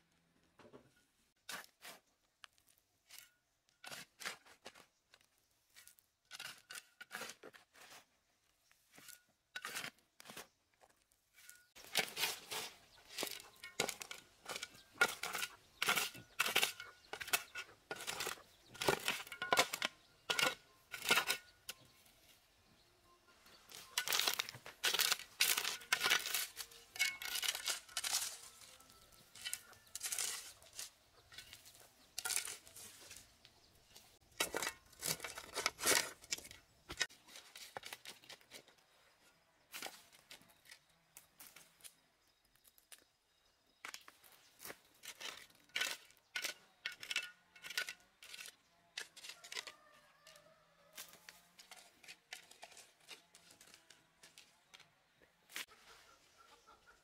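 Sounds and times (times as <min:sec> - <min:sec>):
shovel scraping stony soil: 0:01.4 - 0:22.5, 0:23.5 - 0:38.9, 0:39.7 - 0:42.0, 0:43.8 - 0:54.8.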